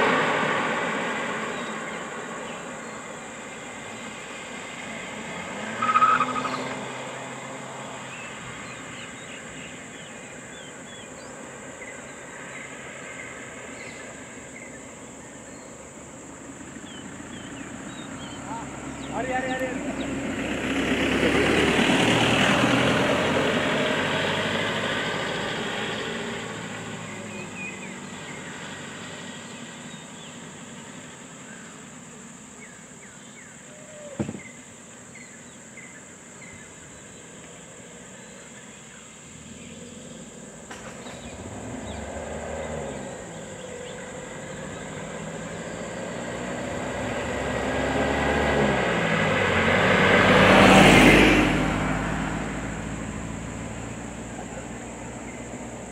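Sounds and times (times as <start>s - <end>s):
vans driving past: 0.0s - 55.9s.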